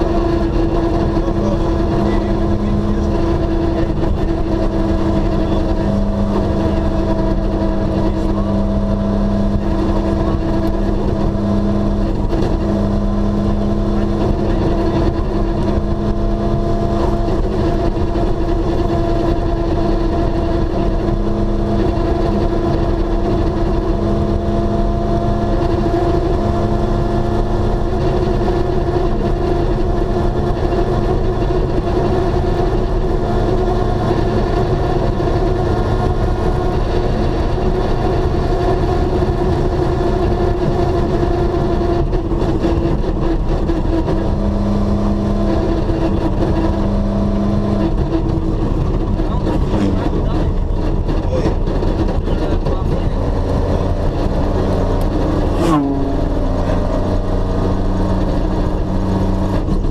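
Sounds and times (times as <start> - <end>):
car engine running: 0.0 - 59.9
low road rumble: 0.0 - 59.9.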